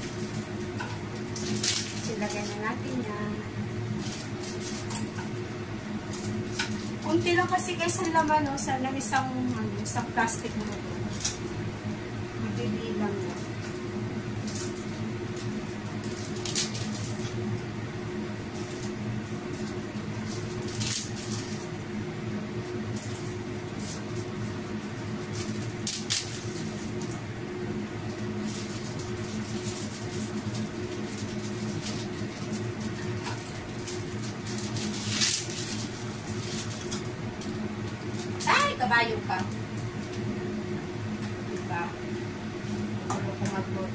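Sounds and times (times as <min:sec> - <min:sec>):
sharp crackles of noodles: 0:00.0 - 0:12.2, 0:13.3 - 0:41.7
gas stove hum: 0:00.0 - 0:43.9.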